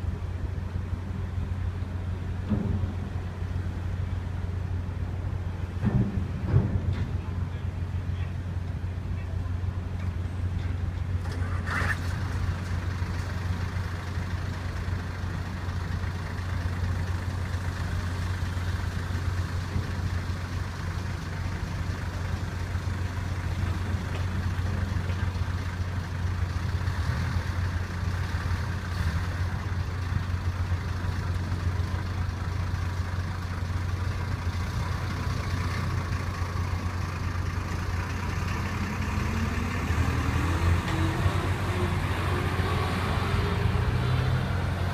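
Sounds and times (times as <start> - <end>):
ferry engine drone: 0.0 - 44.9.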